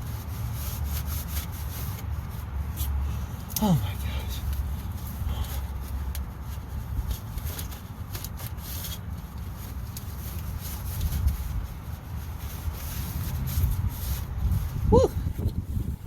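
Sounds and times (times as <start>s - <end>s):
rag rubbing and rustling: 0.0s - 16.0s.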